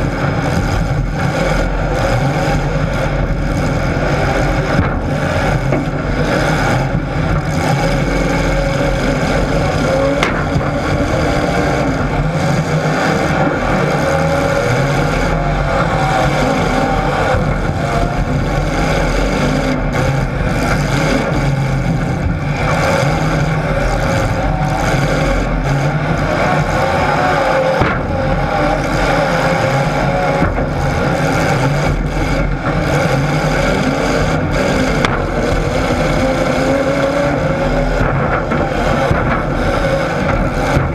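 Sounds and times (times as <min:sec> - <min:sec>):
vehicle engines revving: 0:00.0 - 0:40.9.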